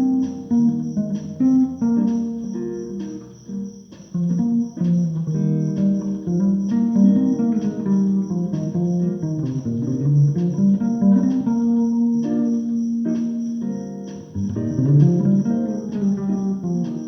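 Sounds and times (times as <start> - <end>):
bass guitar plucking melody: 0.0 - 17.0.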